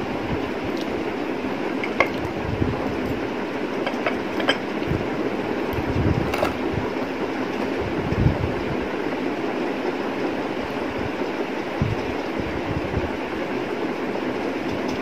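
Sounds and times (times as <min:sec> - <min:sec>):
steady rumbling background noise: 0:00.0 - 0:15.0.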